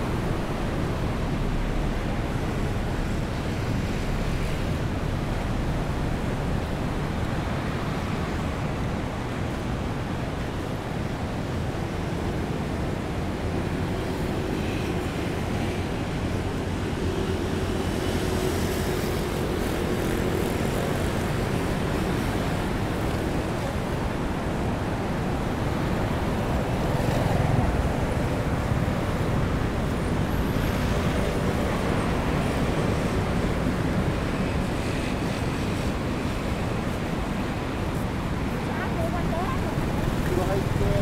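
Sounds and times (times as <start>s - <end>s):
rain: 0.0s - 41.0s.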